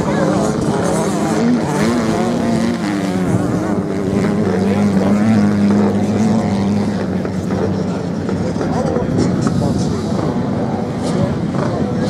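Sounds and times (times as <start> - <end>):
off-road motorcycle engines: 0.0 - 12.0.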